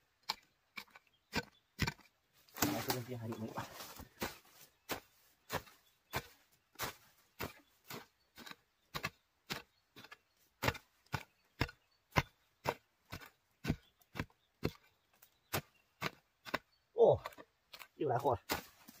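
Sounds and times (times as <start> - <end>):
mattock chopping into soil: 0.2 - 19.0.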